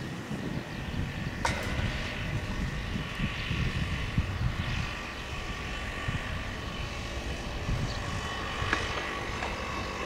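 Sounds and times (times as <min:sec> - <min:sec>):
distant electric train rumble: 0:00.0 - 0:10.0.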